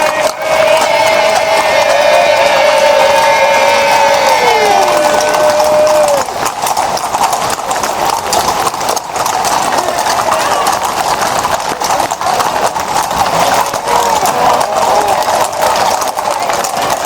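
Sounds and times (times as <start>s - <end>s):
horse hooves clip-clopping on stone: 0.0s - 17.0s.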